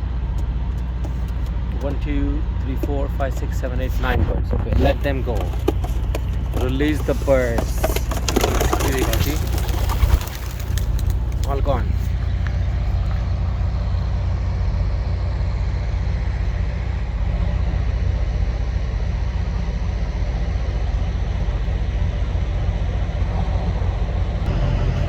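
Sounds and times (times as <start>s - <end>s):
steady low rumble: 0.0s - 8.8s, 9.4s - 25.0s.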